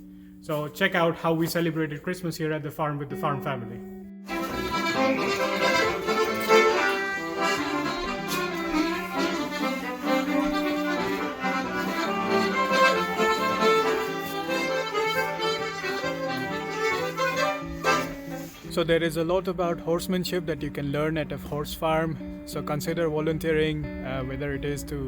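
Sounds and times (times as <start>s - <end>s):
melody of held notes: 3.1s - 24.7s.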